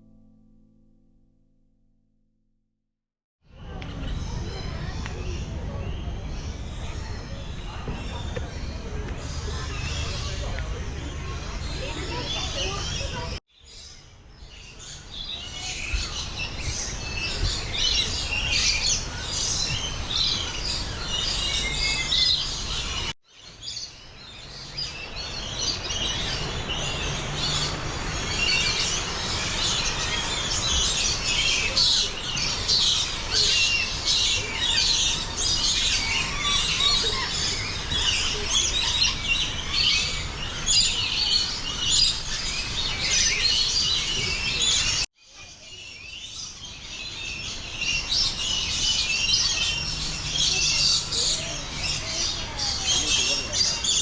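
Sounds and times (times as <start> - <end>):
small birds chirping: 3.8 - 54.0.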